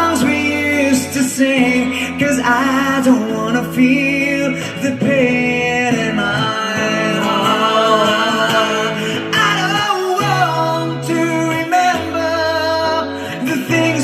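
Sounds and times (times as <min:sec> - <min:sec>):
live rock ballad band: 0:00.0 - 0:14.0.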